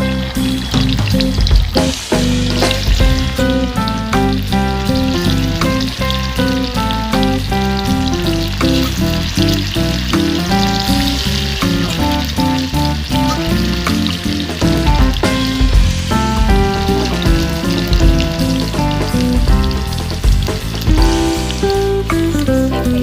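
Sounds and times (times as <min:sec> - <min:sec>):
background music with bass line: 0:00.0 - 0:23.0
food sizzling in hot oil: 0:00.0 - 0:23.0.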